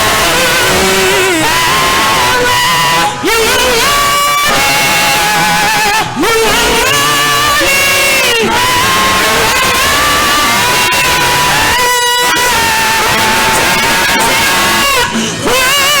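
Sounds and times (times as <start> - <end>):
person singing gospel: 0.0 - 16.0.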